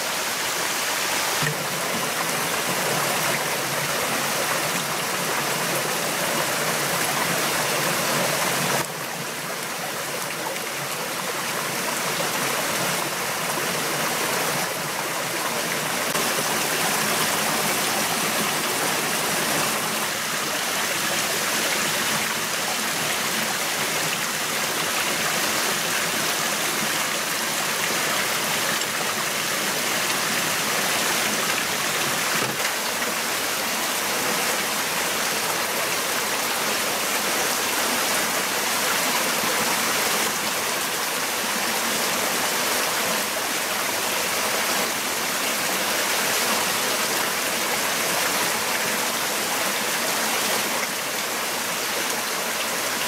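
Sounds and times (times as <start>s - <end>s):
water running over rocks: 0.0s - 53.0s.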